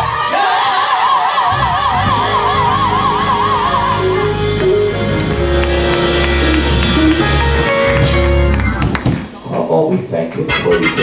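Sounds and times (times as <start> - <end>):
church band music: 0.0 - 9.5.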